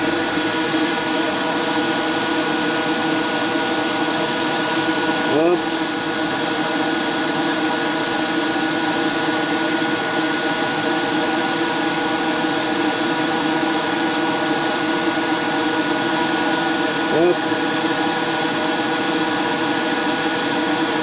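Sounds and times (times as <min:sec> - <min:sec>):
spray-booth motor hum: 0:00.0 - 0:21.0.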